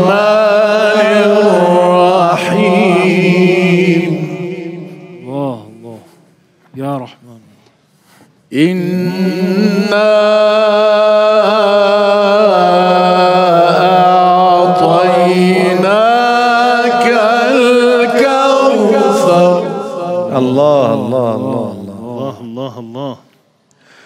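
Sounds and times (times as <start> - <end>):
man reciting in melodic style: 0.0 - 7.7, 8.5 - 23.4.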